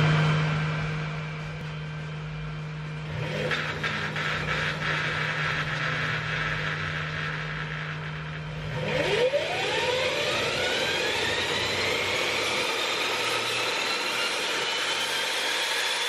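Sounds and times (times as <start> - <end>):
electric motor whine rising: 0.0 - 16.0
low hum: 0.0 - 16.0
brief whir: 2.9 - 16.0.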